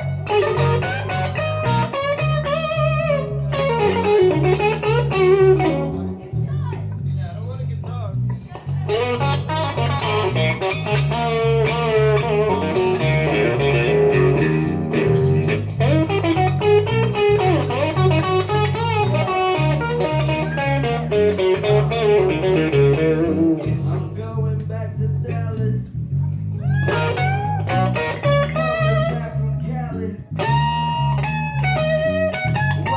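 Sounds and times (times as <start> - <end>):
electric guitar lead with bent notes: 0.0 - 7.2, 8.2 - 24.3, 26.1 - 32.9
electric bass pattern: 0.0 - 32.9.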